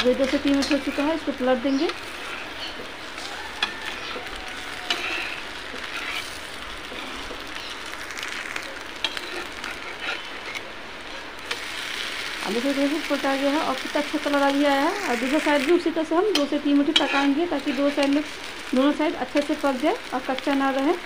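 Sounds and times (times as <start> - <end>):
spatula clicking and scraping: 0.0 - 12.1, 12.7 - 18.4
batter sizzling in oil: 0.0 - 21.0.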